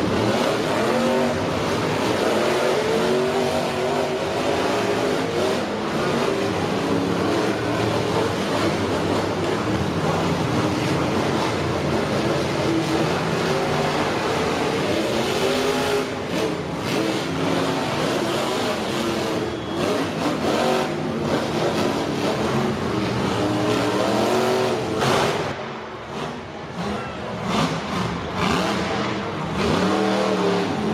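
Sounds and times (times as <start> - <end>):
monster truck engine revving: 0.0 - 30.9.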